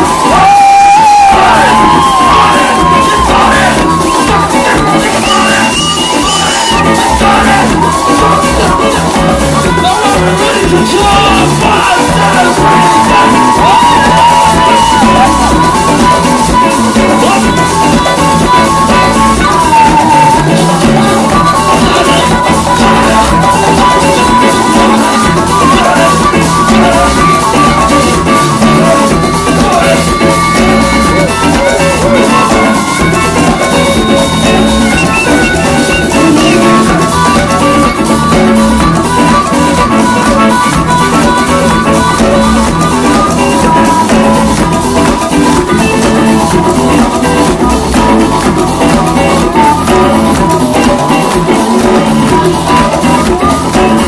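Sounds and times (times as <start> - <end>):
afrobeat band playing: 0.0 - 54.0
drum kit and hand drums: 0.0 - 54.0
electric guitar: 0.0 - 54.0
saxophone: 0.0 - 54.0.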